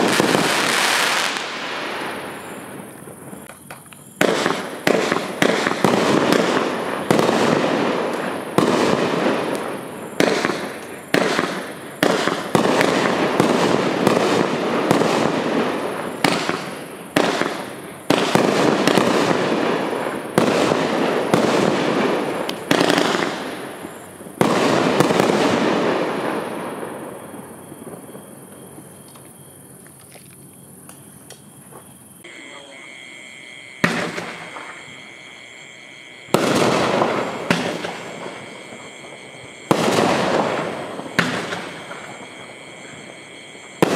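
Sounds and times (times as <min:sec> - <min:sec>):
firework shots: 0:00.0 - 0:28.3, 0:32.4 - 0:43.9
firework crackling: 0:00.0 - 0:29.0, 0:32.2 - 0:43.9.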